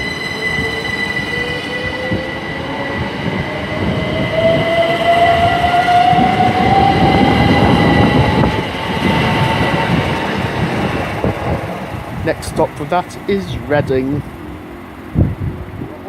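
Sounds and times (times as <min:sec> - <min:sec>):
electric train traction whine: 0:00.0 - 0:16.0
wheels rumbling on rail: 0:00.0 - 0:16.0.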